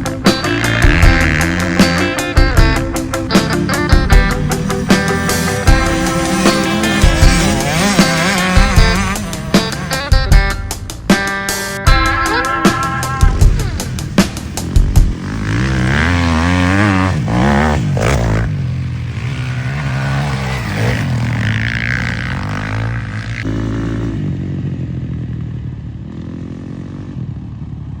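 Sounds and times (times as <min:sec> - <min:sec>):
dirt bike engine revving: 0:00.0 - 0:27.4.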